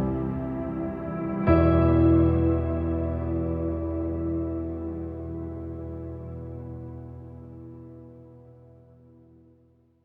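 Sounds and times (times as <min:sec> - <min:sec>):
ambient keyboard chords: 0:00.0 - 0:10.0.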